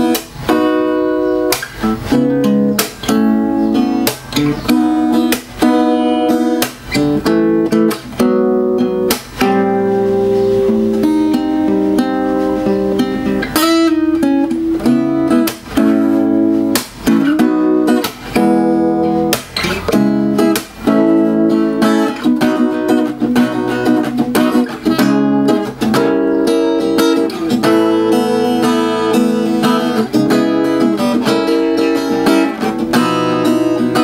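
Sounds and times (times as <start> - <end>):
acoustic guitar picked and strummed: 0.0 - 34.0.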